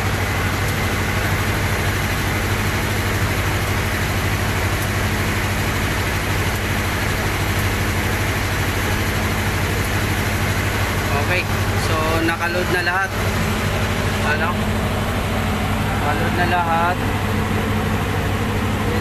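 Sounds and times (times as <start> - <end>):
diesel generator droning: 0.0 - 19.0.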